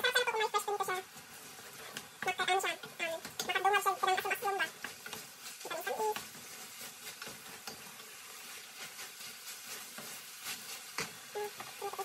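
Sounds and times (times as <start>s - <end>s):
food sizzling in a pan: 0.0s - 12.0s
wooden spoon scraping a pan: 0.1s - 12.0s.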